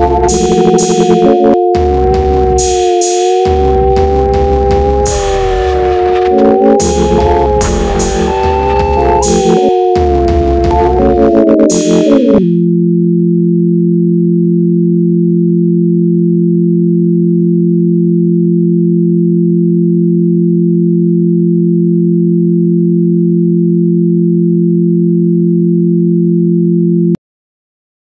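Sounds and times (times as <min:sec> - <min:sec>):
electronic sine tone drone: 0:00.0 - 0:27.1.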